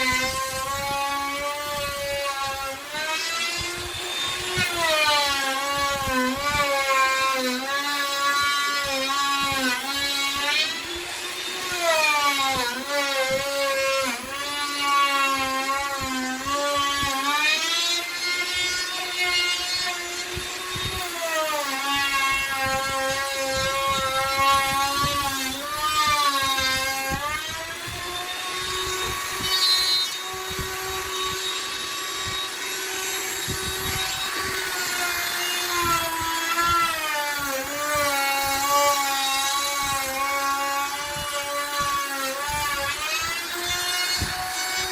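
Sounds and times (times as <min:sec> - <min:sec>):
electric router cutting wood: 0:00.0 - 0:44.9.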